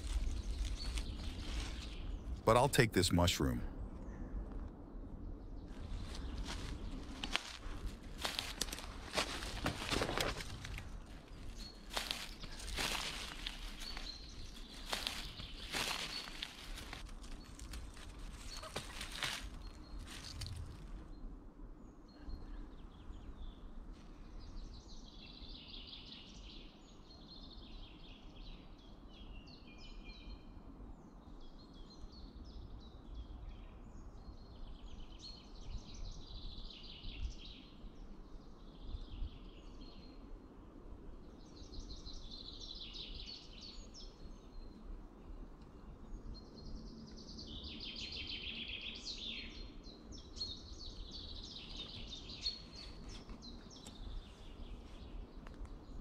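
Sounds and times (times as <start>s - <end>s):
low rumble of wind: 0.0s - 2.5s, 3.5s - 56.0s
songbirds singing: 0.0s - 56.0s.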